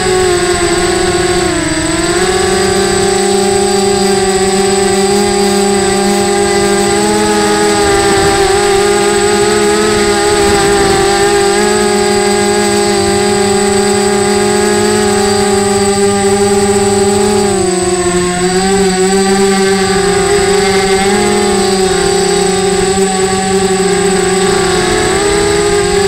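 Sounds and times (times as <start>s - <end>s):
quadcopter propellers buzzing: 0.0s - 26.0s.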